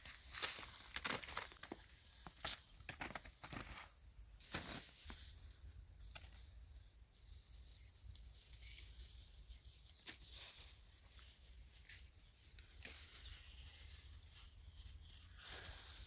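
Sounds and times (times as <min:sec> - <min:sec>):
branches and leaves rustling: 0:00.0 - 0:16.0.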